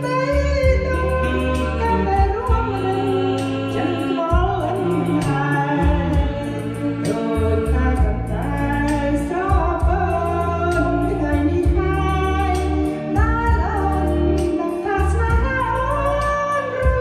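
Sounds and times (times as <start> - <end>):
backing track with bass notes: 0.0 - 17.0
person singing: 0.0 - 17.0.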